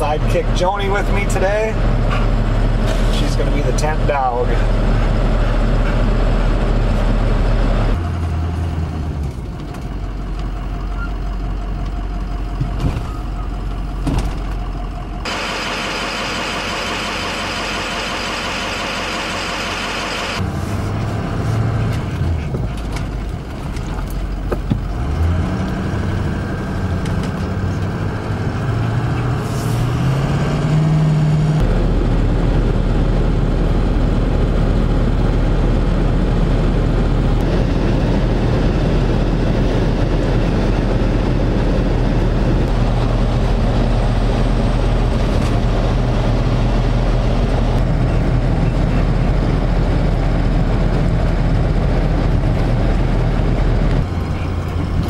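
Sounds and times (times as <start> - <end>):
road noise: 0.0 - 55.0
truck engine running: 0.0 - 55.0.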